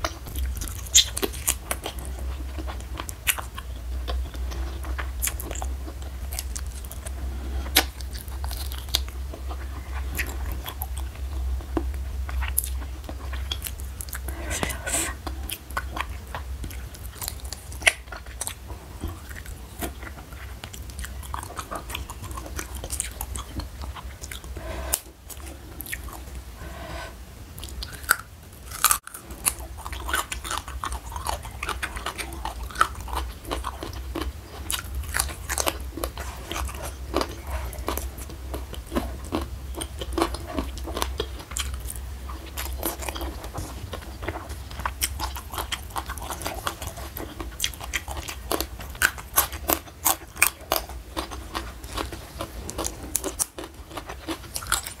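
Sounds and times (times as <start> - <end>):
chewing crunchy leafy greens: 0.0 - 26.3, 27.6 - 55.0
low steady hum: 0.0 - 55.0.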